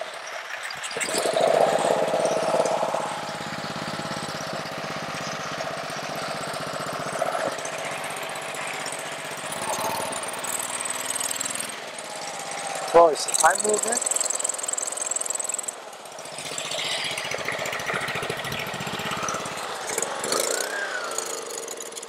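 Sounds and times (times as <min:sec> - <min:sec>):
pressure washer engine running: 0:00.9 - 0:22.0.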